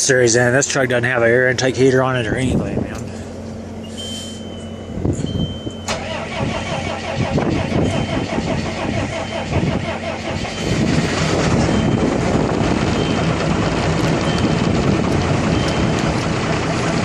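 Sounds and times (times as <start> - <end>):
diesel engine cranking and starting: 1.9 - 17.0.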